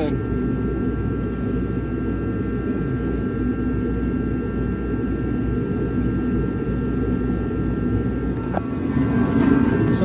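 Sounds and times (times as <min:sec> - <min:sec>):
faint steady tones: 0:00.0 - 0:10.0
low mechanical rumble: 0:00.0 - 0:10.0.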